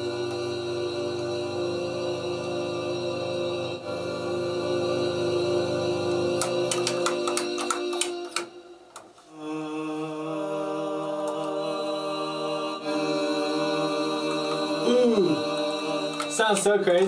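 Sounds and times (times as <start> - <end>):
sampled choir voice chords: 0.0 - 17.0.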